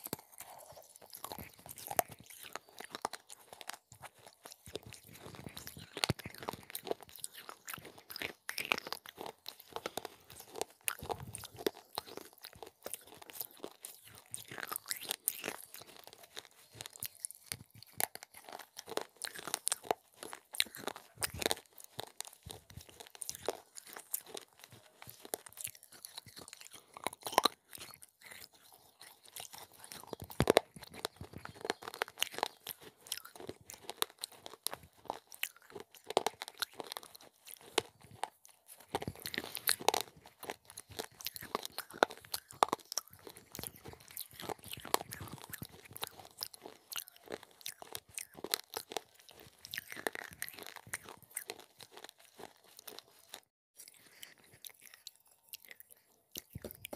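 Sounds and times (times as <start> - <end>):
crunching and chewing: 0.0 - 56.9.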